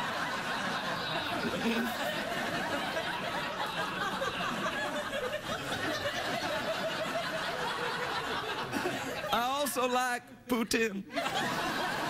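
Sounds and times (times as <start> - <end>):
audience laughing: 0.0 - 9.4, 11.1 - 12.0.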